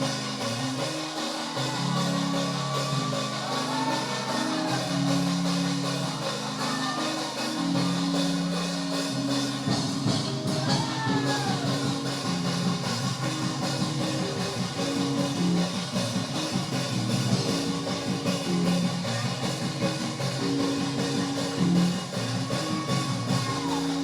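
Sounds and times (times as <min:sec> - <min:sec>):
drum kit beat: 0:00.0 - 0:24.0
live church praise music: 0:00.0 - 0:24.0.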